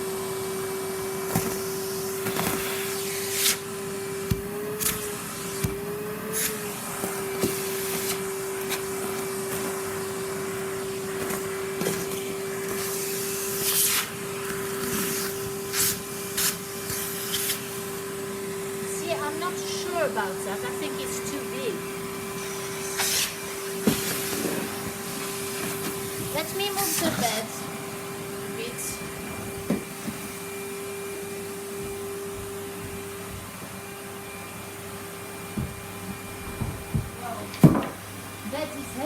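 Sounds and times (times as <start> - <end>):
vacuum cleaner motor whine: 0.0 - 39.0.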